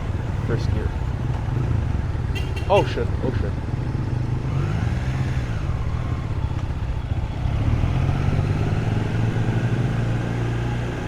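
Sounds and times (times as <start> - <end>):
motorcycle engine at low speed: 0.0 - 11.0
road noise: 0.0 - 11.0.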